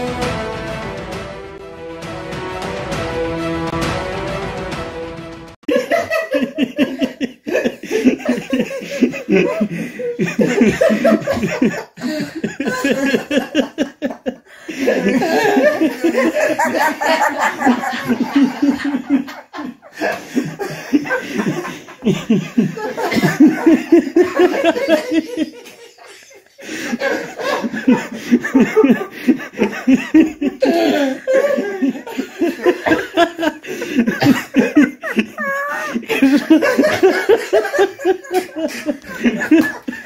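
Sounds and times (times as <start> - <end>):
people laughing hard: 5.6 - 40.0.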